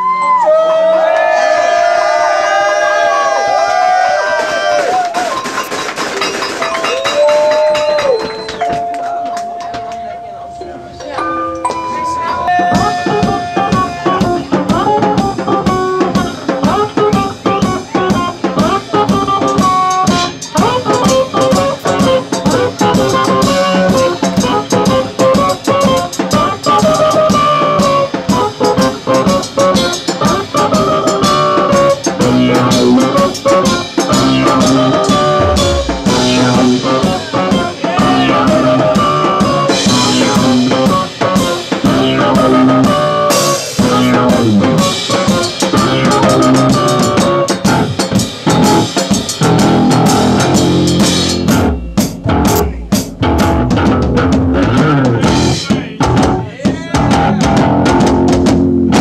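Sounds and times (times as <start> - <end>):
live band playing loud music: 4.0 - 59.0
fast drumming and cymbals: 4.6 - 8.8, 12.4 - 59.0.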